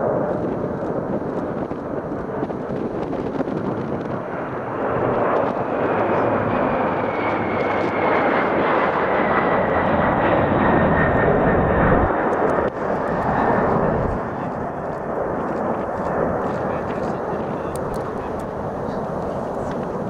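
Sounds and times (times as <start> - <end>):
jet engine whine falling in pitch: 0.0 - 20.0
jet flying low past: 0.0 - 20.0.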